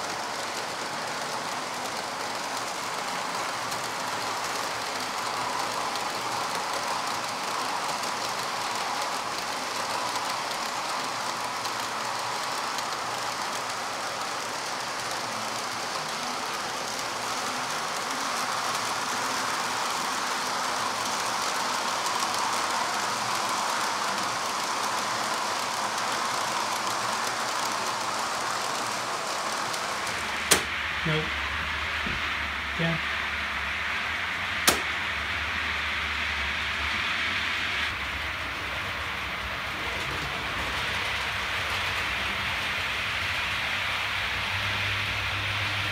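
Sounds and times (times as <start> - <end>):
model train motor whirring: 0.0 - 45.9
wheels rolling on rails: 0.0 - 45.9.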